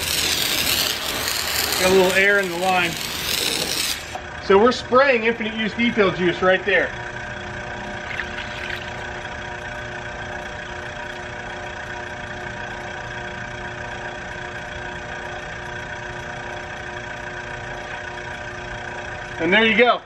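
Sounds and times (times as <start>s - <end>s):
pump motor humming: 0.0s - 6.1s, 6.9s - 12.4s, 13.6s - 19.5s.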